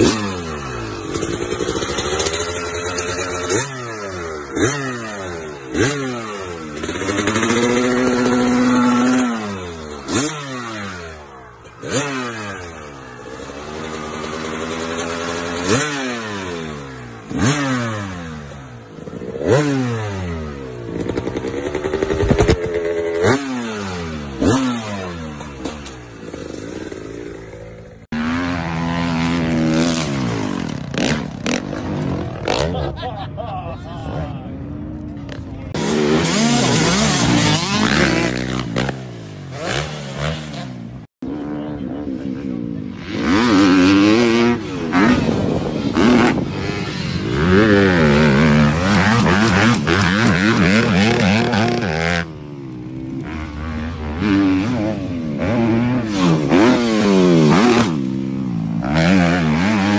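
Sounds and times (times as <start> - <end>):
dirt bike engine revving: 0.0 - 33.5, 34.1 - 59.9.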